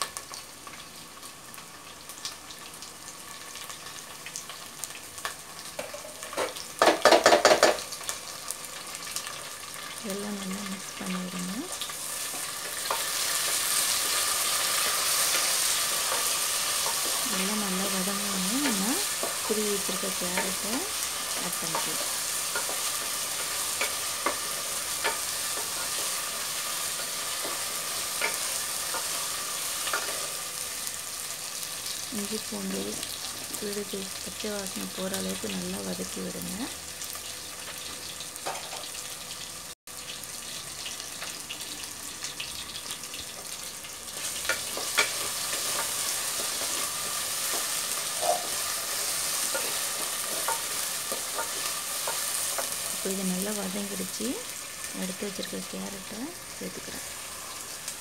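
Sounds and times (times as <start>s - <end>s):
hot oil sizzling: 0.0s - 58.0s.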